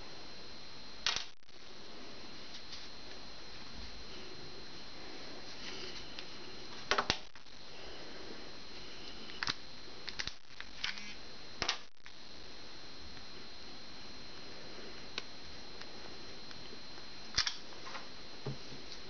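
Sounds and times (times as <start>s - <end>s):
steady hiss with high tone: 0.0s - 19.0s.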